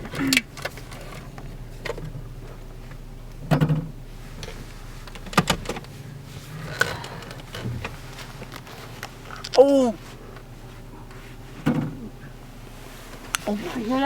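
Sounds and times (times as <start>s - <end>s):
low car interior hum: 0.0s - 14.0s.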